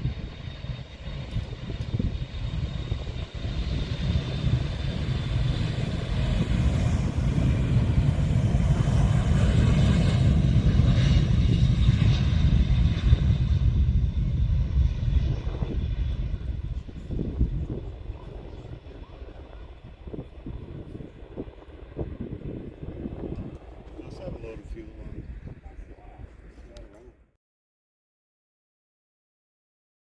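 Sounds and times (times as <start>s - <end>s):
aircraft engine rumble: 0.0s - 27.4s.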